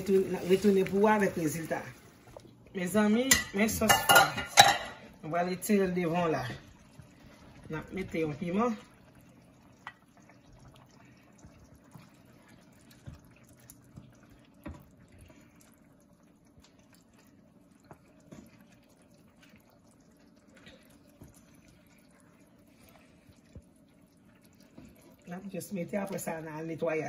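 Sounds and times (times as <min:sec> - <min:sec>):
low steady hum: 0:00.0 - 0:27.0
sauce simmering with small pops: 0:00.1 - 0:05.2, 0:05.8 - 0:26.7.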